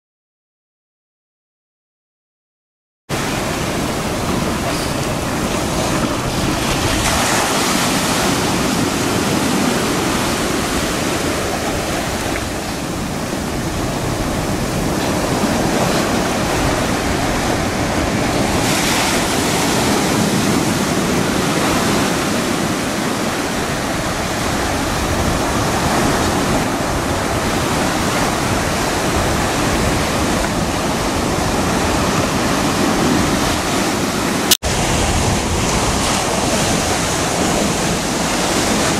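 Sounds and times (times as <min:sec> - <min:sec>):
ocean surf breaking: 0:03.1 - 0:38.9
wind rumble on microphone: 0:03.1 - 0:38.9.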